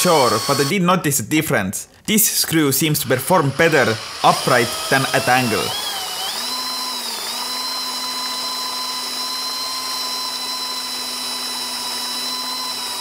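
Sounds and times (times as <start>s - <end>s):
cordless drill motor whine: 0.0s - 0.7s, 3.0s - 13.0s.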